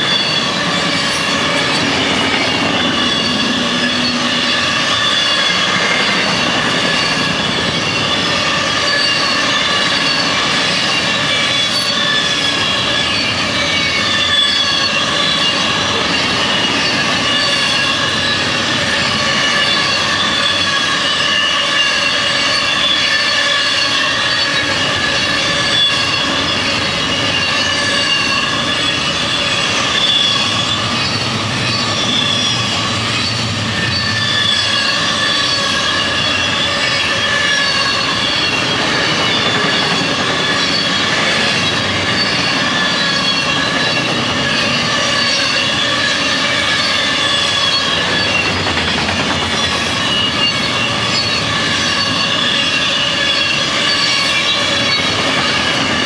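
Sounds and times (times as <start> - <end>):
high-pitched wheel squeal: 0.0 - 56.0
train wheels rumbling on rail: 0.0 - 56.0.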